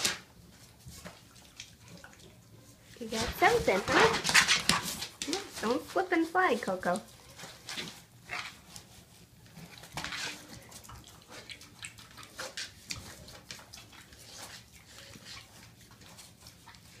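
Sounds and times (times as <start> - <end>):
pig snout rustling and scraping: 0.0 - 17.0.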